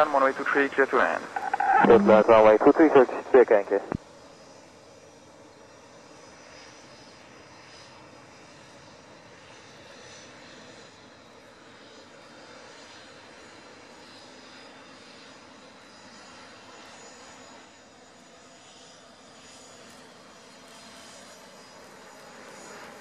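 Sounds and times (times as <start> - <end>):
faint jet engine noise: 0.0 - 23.0.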